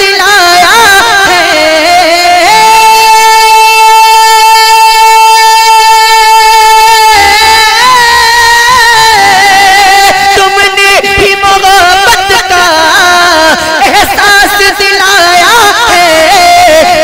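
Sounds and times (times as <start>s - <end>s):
man singing through loudspeakers: 0.0s - 17.0s.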